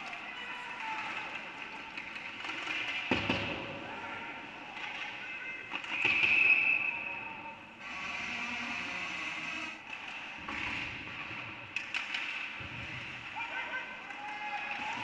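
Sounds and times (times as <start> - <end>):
ice hockey play: 0.0 - 7.8, 9.7 - 15.0
voices shouting in a hall: 0.0 - 10.5, 12.8 - 15.0.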